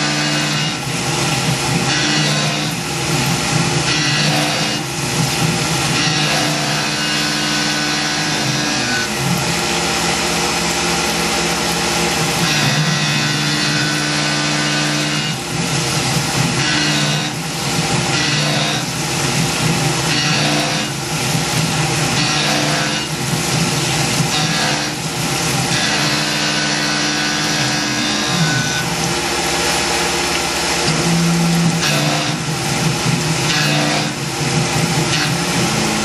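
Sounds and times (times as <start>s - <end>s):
cutting and coolant spray hiss: 0.0s - 36.0s
milling machine spindle hum: 0.0s - 36.0s.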